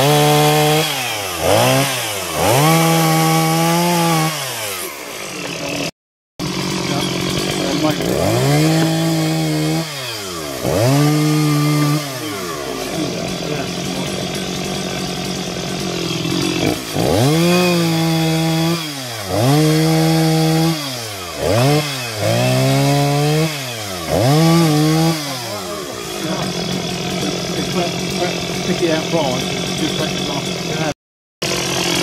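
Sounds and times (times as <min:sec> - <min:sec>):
chainsaw engine revving: 0:00.0 - 0:32.0.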